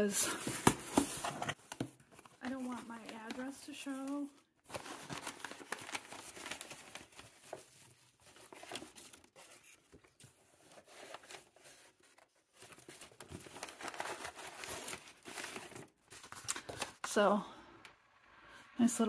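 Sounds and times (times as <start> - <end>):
packing paper crinkling: 0.3 - 17.1.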